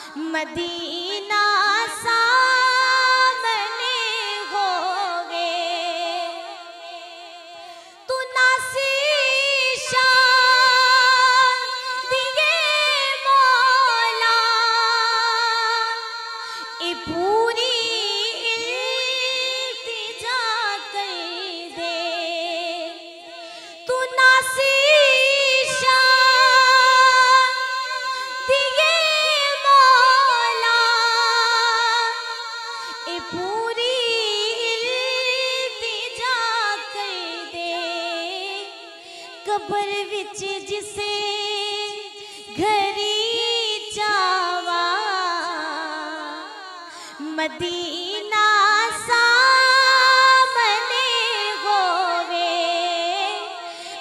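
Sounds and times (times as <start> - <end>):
woman singing unaccompanied: 0.0 - 54.0.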